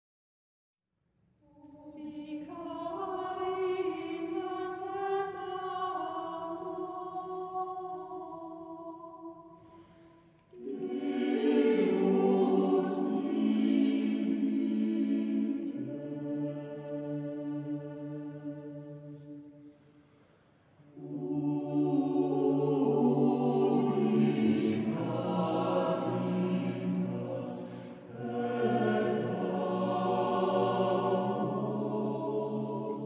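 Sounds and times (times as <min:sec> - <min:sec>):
mixed choir singing in harmony: 0:01.6 - 0:19.8, 0:20.9 - 0:33.0.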